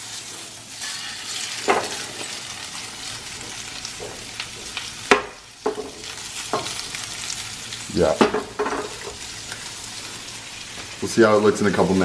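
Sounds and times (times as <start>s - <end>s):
fish sizzling in a hot pan: 0.0s - 12.0s.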